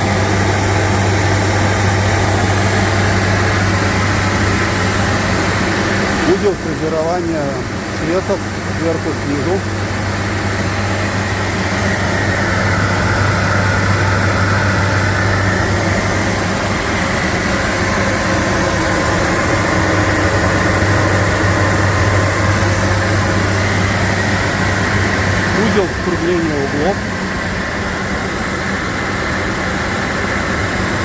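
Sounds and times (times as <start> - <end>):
machine motor humming: 0.0 - 31.0.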